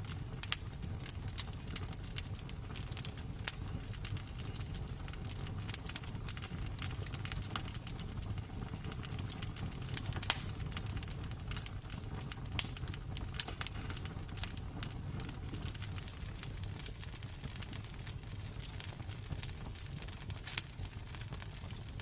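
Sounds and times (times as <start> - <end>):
sharp fire pops: 0.0 - 22.0
wood fire crackling: 0.0 - 22.0.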